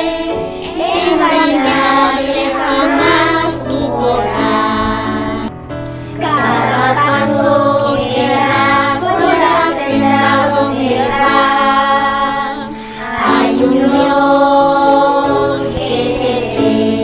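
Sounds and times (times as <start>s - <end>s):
children's choir singing: 0.0s - 5.5s, 6.1s - 17.0s
instrumental accompaniment: 0.0s - 17.0s.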